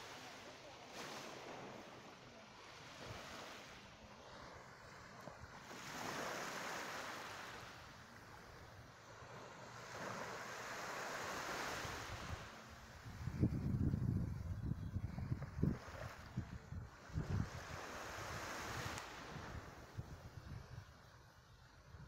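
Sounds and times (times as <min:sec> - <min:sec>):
small waves on a sandy beach: 0:00.0 - 0:22.0.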